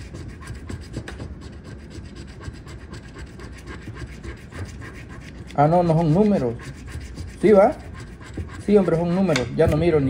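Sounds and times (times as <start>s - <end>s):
coin scratching lottery ticket: 0.0s - 10.0s.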